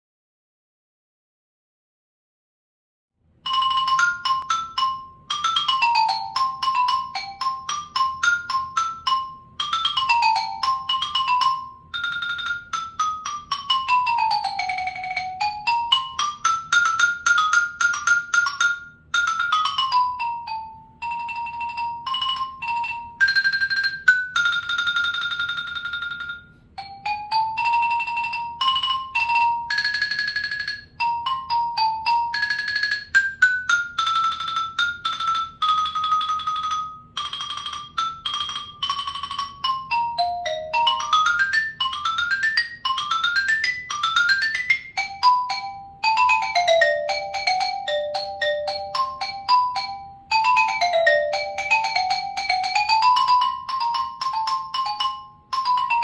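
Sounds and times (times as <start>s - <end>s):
solo xylophone: 3.4s - 56.0s.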